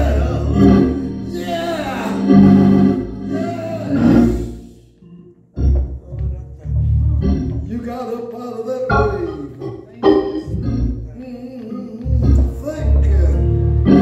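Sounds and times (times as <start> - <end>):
church organ chords: 0.0 - 11.2, 12.1 - 14.0.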